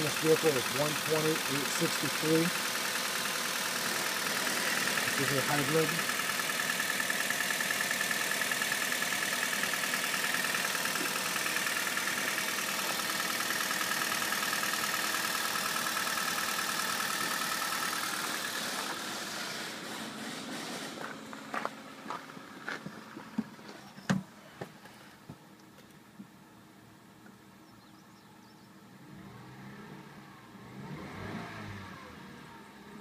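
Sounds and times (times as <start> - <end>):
car engine idling: 0.0 - 29.1.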